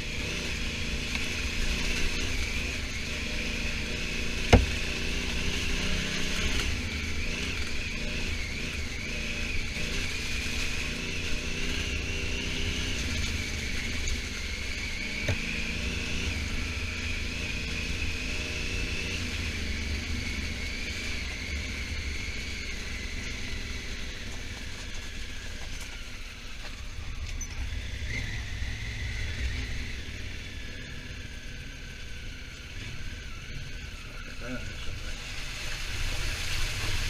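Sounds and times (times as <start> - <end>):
motorcycle engine running: 0.0 - 34.8
wind and road rumble: 0.0 - 37.0.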